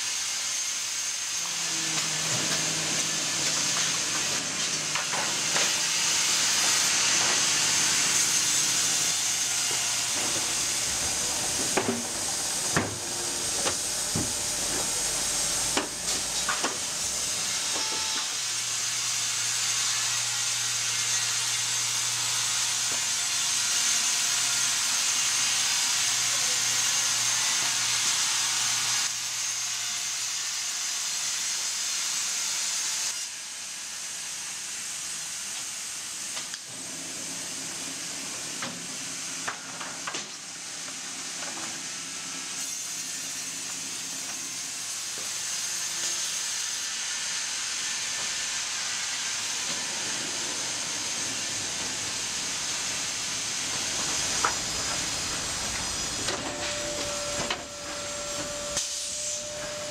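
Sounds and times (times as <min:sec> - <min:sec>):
band saw cutting log: 0:00.0 - 0:30.4, 0:35.5 - 0:59.9.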